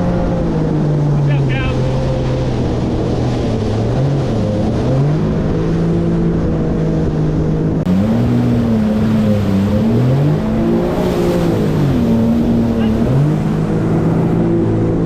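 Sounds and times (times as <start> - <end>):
rushing water: 0.0 - 15.0
watercraft engine revving: 0.0 - 15.0
wind: 0.0 - 15.0.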